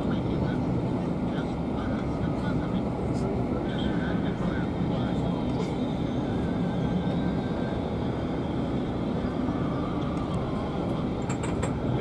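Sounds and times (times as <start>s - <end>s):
railway carriage rumble on track: 0.0s - 12.0s.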